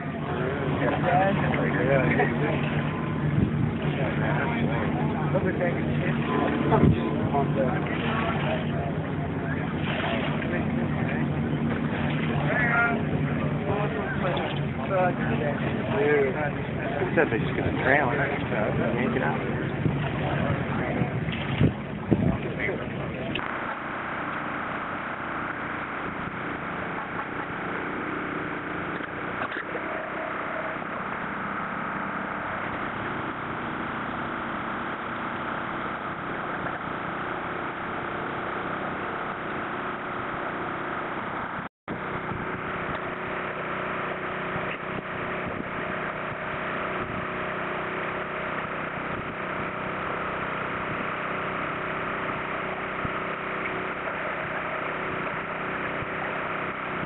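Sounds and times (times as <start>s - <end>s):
engine running: 0.0s - 57.0s
water gushing from pump hose: 0.0s - 57.0s.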